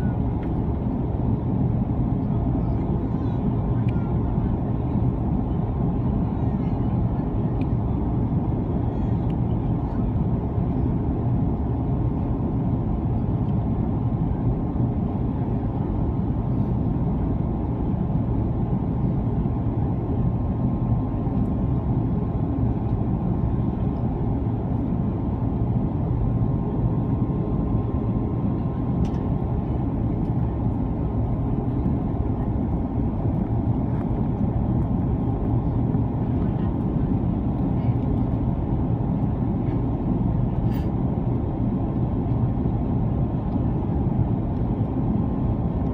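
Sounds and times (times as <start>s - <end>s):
airliner cabin engine drone: 0.0s - 45.9s.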